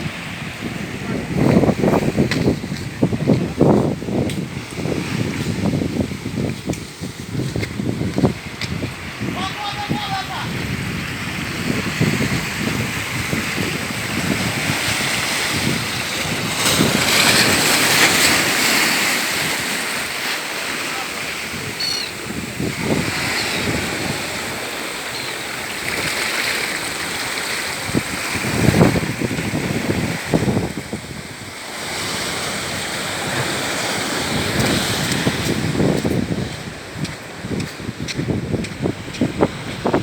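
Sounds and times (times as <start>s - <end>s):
rushing water like surf: 0.0s - 40.0s
wind buffeting microphone: 0.0s - 40.0s.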